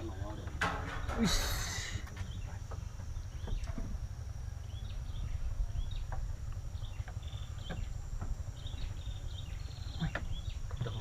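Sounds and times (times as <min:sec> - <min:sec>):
high insect drone: 0:00.0 - 0:11.0
low steady rumble: 0:00.0 - 0:11.0.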